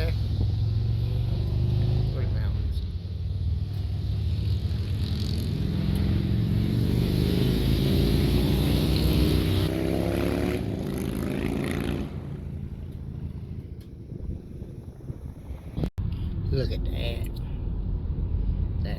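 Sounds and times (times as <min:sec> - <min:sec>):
vehicle engine accelerating: 0:00.0 - 0:02.6, 0:03.4 - 0:16.4.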